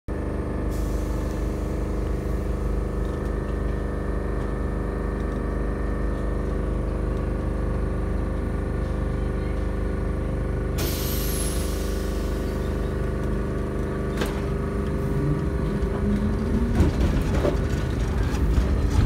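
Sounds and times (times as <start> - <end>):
tram electric hum and rumble: 0.1 - 19.0.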